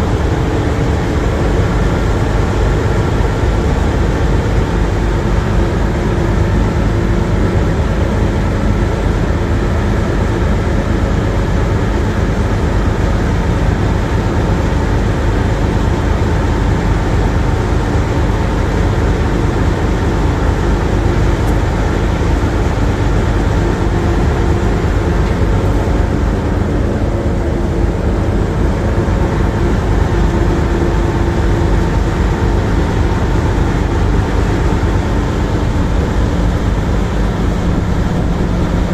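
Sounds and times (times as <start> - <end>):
ship engine rumble: 0.0 - 38.9.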